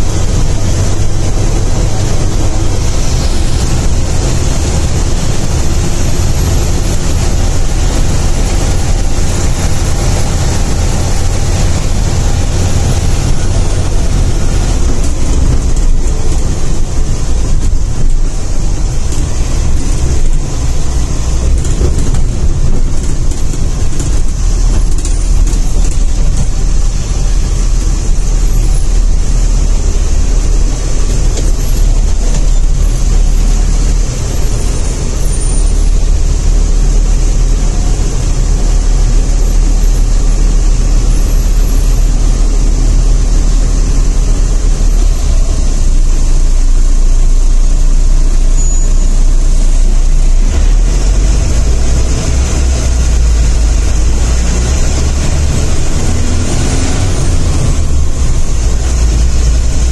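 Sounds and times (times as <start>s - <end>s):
bus engine rumbling: 0.0s - 59.9s
road noise: 0.0s - 59.9s.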